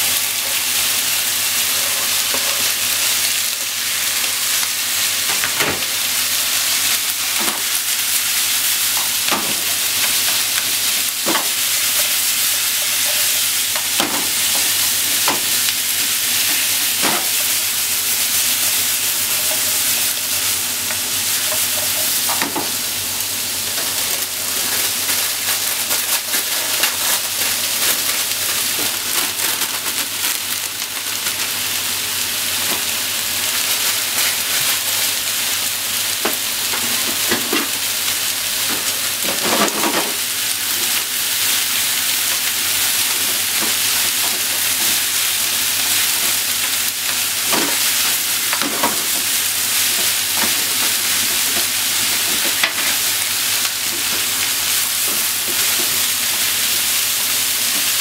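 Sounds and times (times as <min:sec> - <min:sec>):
meat and vegetables sizzling in a pan: 0:00.0 - 0:58.0.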